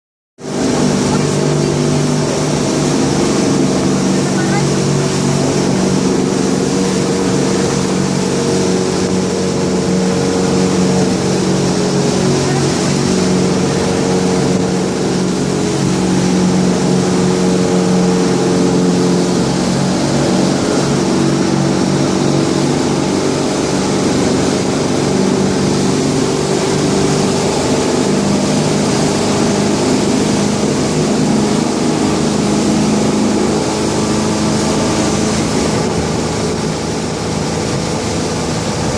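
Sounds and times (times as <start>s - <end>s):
motorboat engine running: 0.4s - 38.9s.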